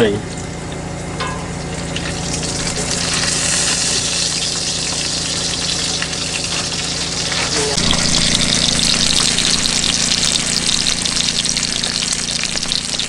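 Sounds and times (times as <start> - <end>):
food sizzling in a pan: 1.8 - 13.0.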